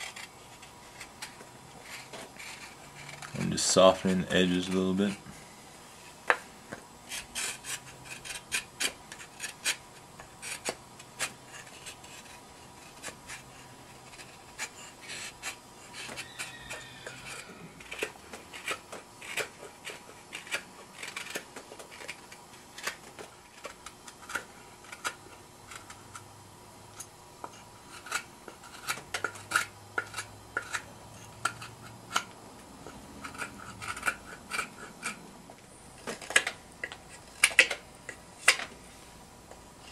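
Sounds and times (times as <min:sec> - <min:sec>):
knife carving wood: 0:00.0 - 0:05.2, 0:07.0 - 0:26.3, 0:26.9 - 0:35.2, 0:35.9 - 0:38.6.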